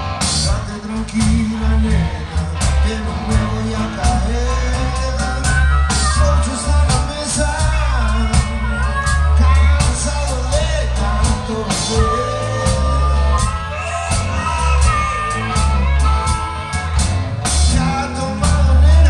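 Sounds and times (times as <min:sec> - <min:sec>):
live rock band playing: 0:00.0 - 0:19.0
voices singing into microphones: 0:00.0 - 0:19.0.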